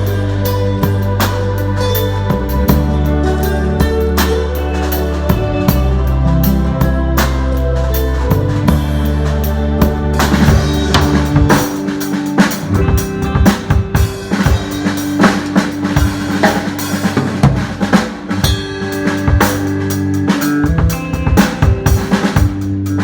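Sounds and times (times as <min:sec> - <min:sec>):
bass and keyboard notes: 0:00.0 - 0:23.0
drum kit groove: 0:00.0 - 0:23.0.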